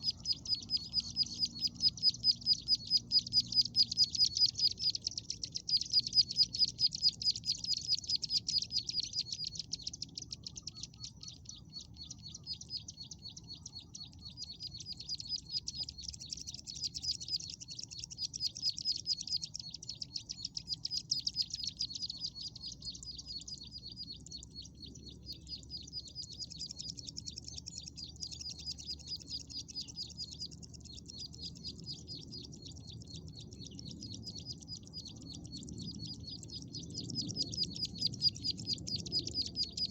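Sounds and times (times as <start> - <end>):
small bird high chirps: 0.0 - 39.9.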